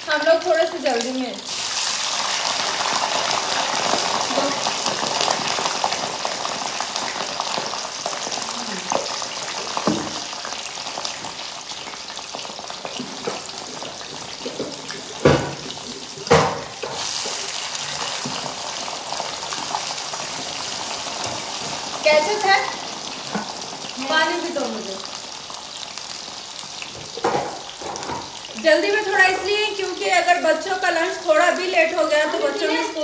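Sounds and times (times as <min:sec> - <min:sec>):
potatoes deep-frying in oil: 0:00.0 - 0:33.0.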